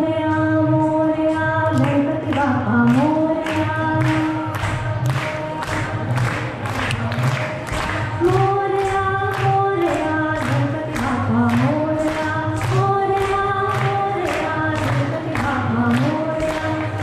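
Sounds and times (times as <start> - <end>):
woman singing through pa: 0.0 - 5.2, 8.2 - 17.0.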